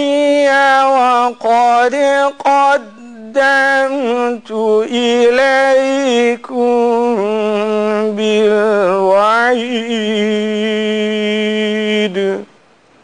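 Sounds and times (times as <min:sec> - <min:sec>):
man chanting melodically: 0:00.0 - 0:12.5.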